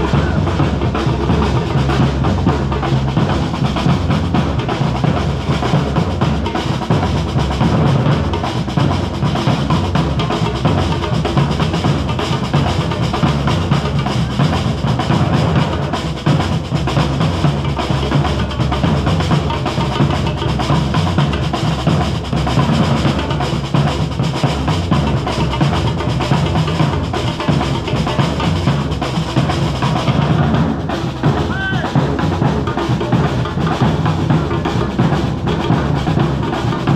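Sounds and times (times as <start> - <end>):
street drum band playing: 0.0 - 36.9.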